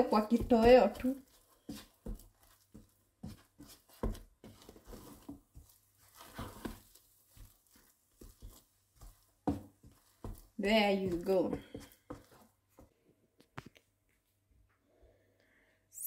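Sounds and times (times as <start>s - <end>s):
spatula stirring mashed potatoes: 0.0s - 13.2s.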